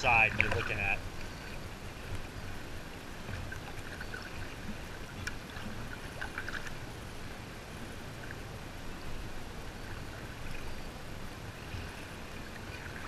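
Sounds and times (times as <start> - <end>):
water splashing against kayak hull: 0.0 - 13.0.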